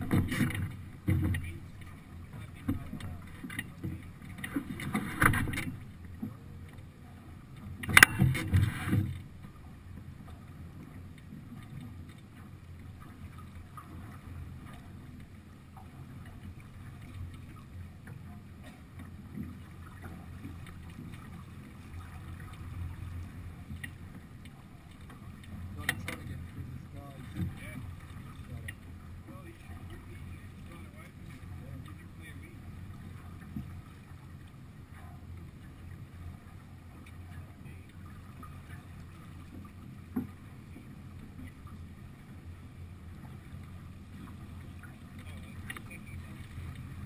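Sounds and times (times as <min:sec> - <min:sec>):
water rushing along a hull: 0:00.0 - 0:47.0.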